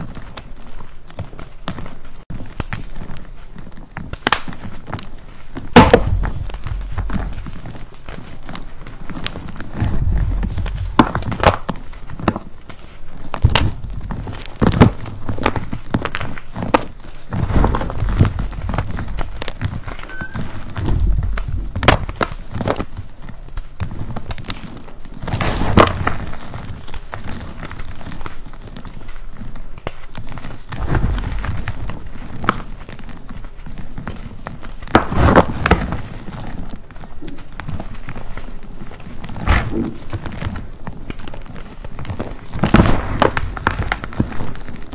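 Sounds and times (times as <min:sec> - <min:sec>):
chalk crunching and cracking: 0:00.0 - 0:44.9.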